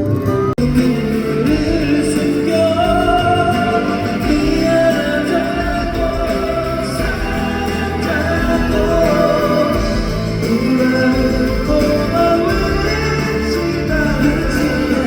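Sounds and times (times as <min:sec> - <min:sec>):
live band accompaniment: 0:00.0 - 0:15.0.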